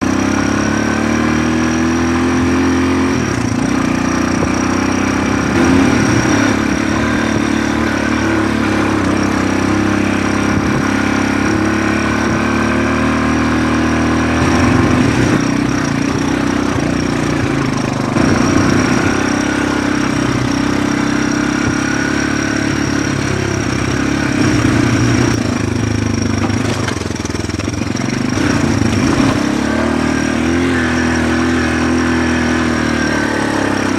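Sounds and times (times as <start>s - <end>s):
motorbike engine revving: 0.0s - 33.9s.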